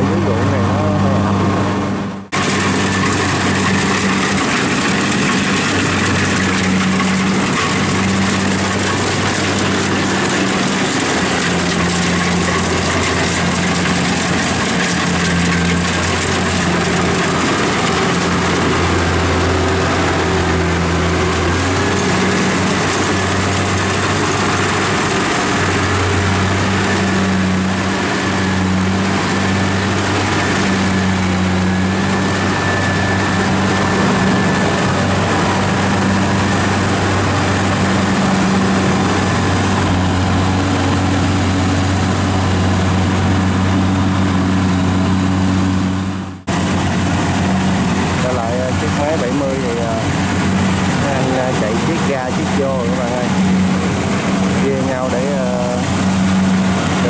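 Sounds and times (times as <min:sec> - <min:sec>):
harvester engine hum: 0:00.0 - 0:57.0.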